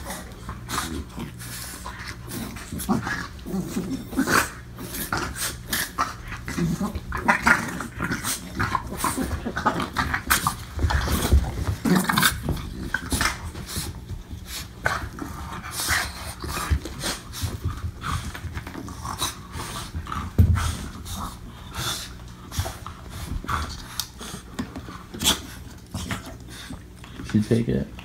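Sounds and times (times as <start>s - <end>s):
dogs panting: 0.0s - 28.0s
dogs scuffling: 0.0s - 28.0s.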